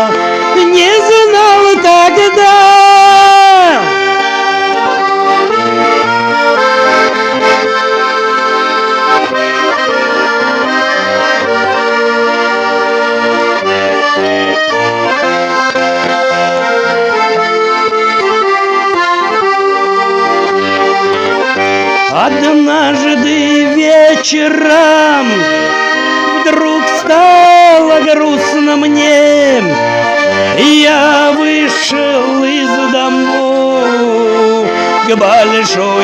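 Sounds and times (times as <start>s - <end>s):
accordion playing folk music: 0.0s - 36.0s.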